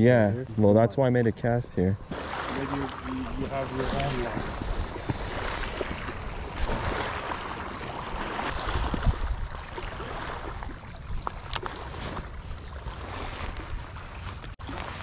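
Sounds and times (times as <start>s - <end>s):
wind buffeting microphone: 2.0s - 14.1s
small waves lapping on rocks: 2.0s - 15.0s.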